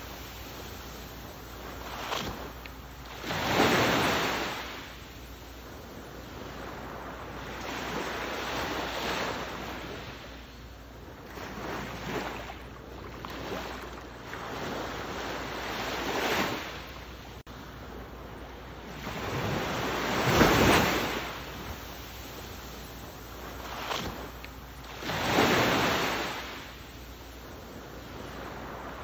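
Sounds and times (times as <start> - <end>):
ocean waves washing in: 0.0 - 29.0.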